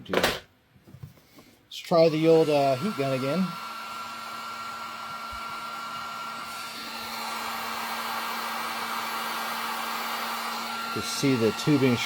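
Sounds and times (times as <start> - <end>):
heat gun blowing air: 1.9 - 12.0.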